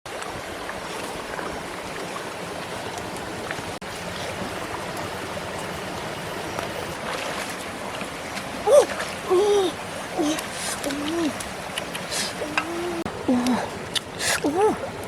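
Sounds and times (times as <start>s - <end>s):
stream water flowing: 0.1s - 15.0s.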